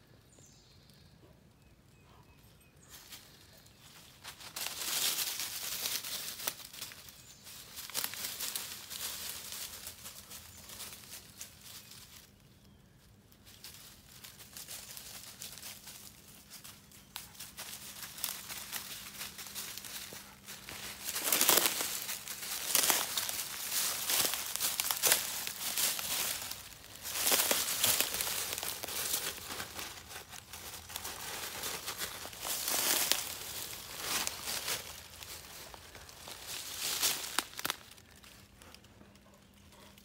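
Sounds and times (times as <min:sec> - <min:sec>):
dogs digging in dry leaves: 0:04.3 - 0:12.2, 0:13.6 - 0:38.8.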